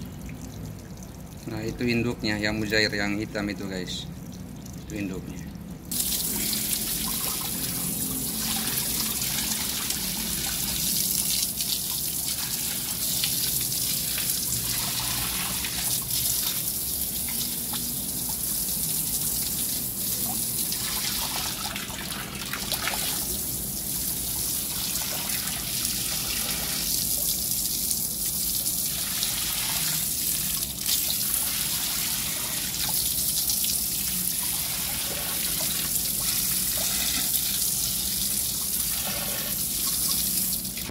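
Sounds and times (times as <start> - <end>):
water jet splashing: 5.9 - 40.9.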